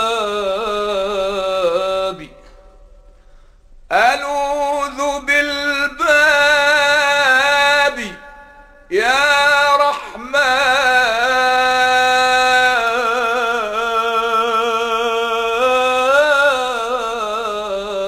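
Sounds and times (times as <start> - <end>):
person singing devotional song: 0.0 - 2.8, 3.9 - 18.0.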